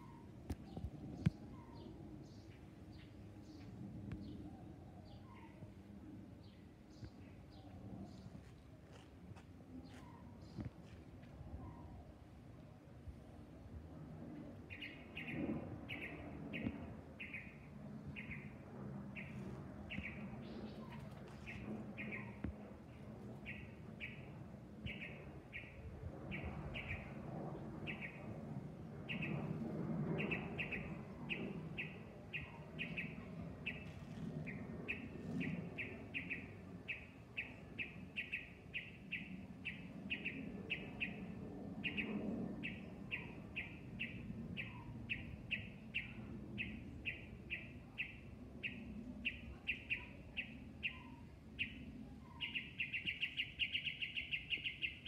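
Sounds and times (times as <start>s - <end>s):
jet engines rumbling overhead: 0.0s - 55.0s.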